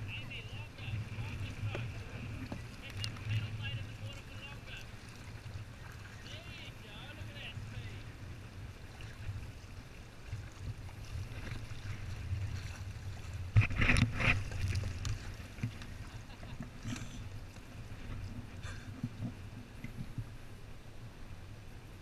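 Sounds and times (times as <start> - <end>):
paddles splashing in water: 0.0 - 21.4
water rumbling against hull: 0.0 - 22.0.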